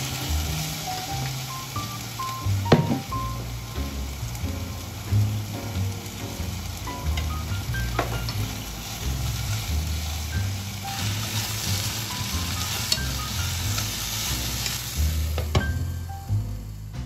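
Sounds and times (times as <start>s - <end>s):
food sizzling in a frying pan: 0.0s - 16.4s
soft background music: 0.0s - 17.0s.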